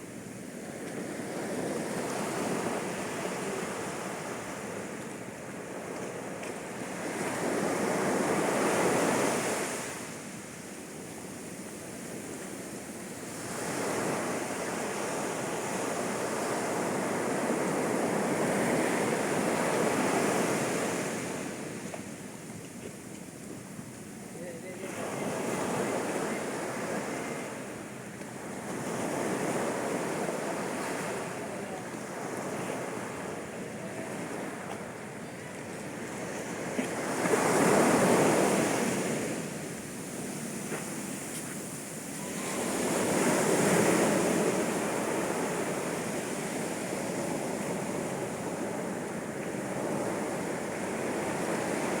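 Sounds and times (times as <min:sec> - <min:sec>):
sea waves washing onto beach: 0:00.0 - 0:52.0.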